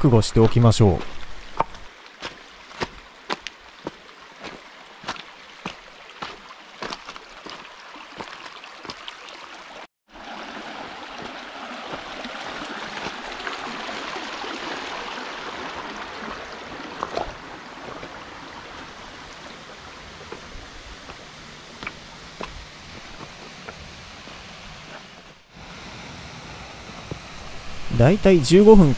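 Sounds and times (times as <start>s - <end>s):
stream babbling over stones: 0.0s - 24.2s.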